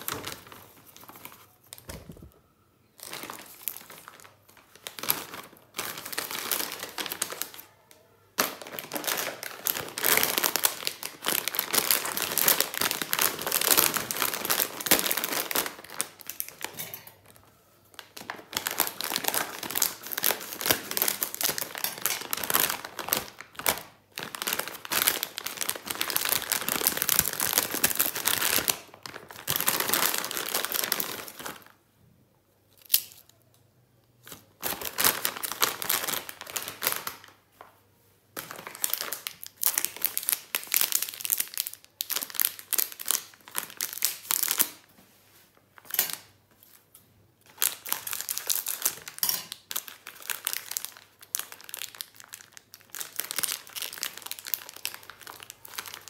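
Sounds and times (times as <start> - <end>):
chip packet crinkling: 3.0 - 7.8, 8.4 - 31.8, 34.2 - 37.4, 38.4 - 44.9, 47.4 - 56.0.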